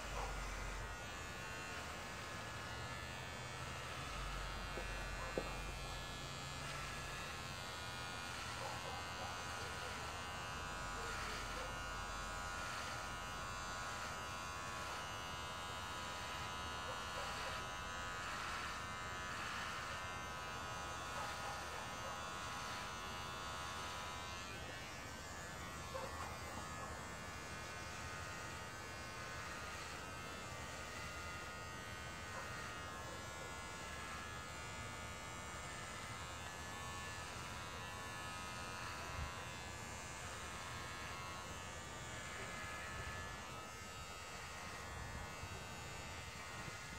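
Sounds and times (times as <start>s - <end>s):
electric hair clippers running: 0.0s - 46.9s.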